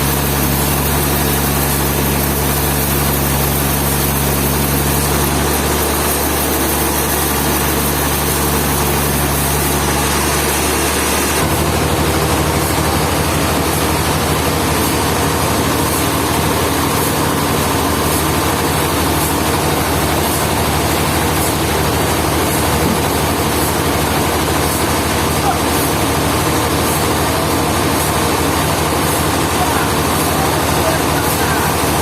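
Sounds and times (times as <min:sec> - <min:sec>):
heavy engine idling: 0:00.0 - 0:32.0.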